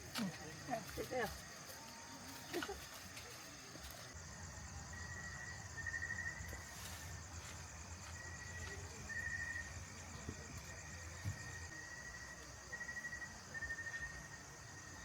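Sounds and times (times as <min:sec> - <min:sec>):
lower insect trill: 0:00.0 - 0:15.0
steady high insect trill: 0:00.0 - 0:15.0.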